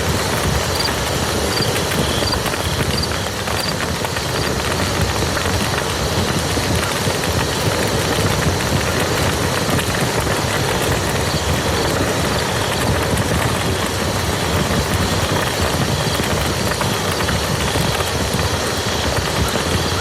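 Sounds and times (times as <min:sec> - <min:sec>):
rain on muddy ground: 0:00.0 - 0:20.0.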